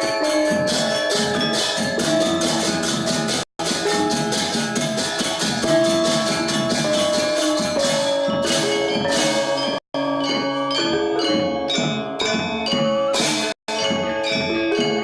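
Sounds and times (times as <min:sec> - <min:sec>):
gamelan gong ensemble playing: 0:00.0 - 0:15.0.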